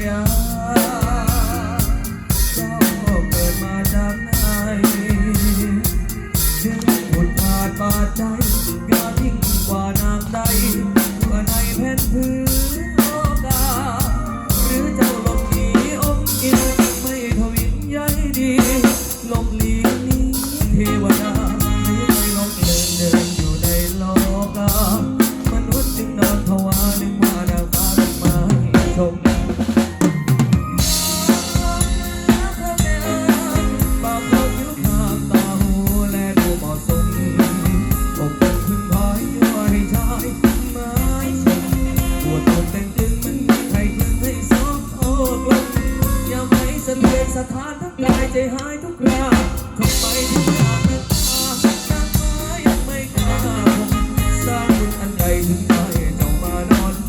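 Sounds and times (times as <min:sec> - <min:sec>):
steady bass drum: 0:00.0 - 0:47.4, 0:49.1 - 0:57.0
live band playing: 0:00.0 - 0:57.0.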